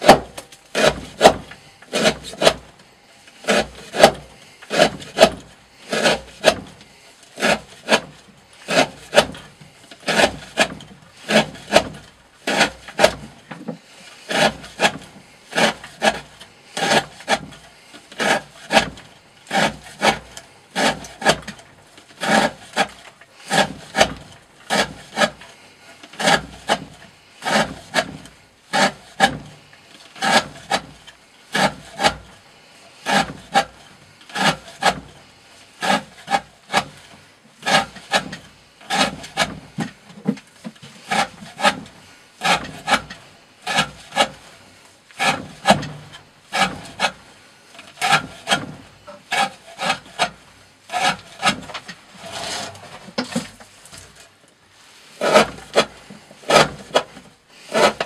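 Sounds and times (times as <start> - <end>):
knife cutting through rope: 0.0 - 2.7, 3.4 - 13.4, 14.0 - 21.6, 22.2 - 32.4, 33.0 - 35.2, 35.8 - 44.6, 45.2 - 47.2, 47.8 - 54.3, 55.2 - 58.0.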